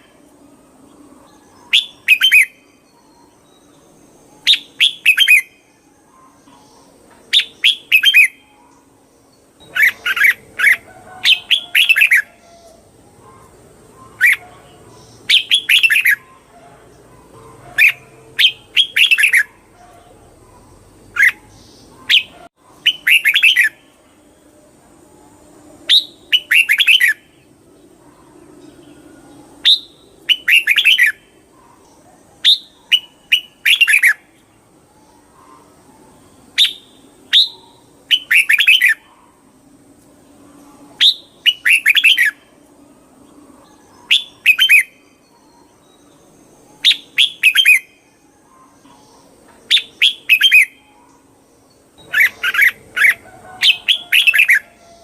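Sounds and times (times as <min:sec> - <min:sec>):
bird singing warbled phrases: 0:00.0 - 0:39.6, 0:40.2 - 0:55.0.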